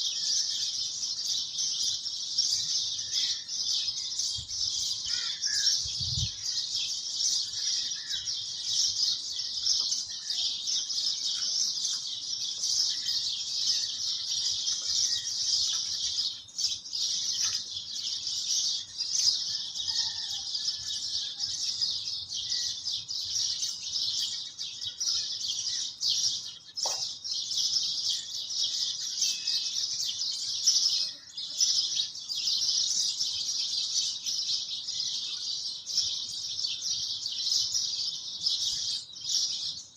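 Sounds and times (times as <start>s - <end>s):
high-pitched birds chirping: 0.0s - 39.9s.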